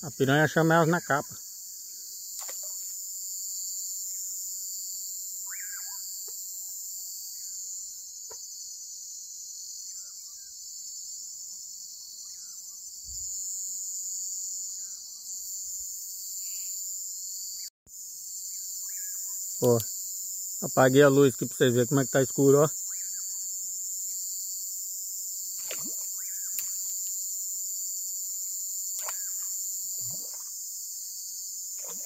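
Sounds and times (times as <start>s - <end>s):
crickets and insects trilling: 0.0s - 32.0s.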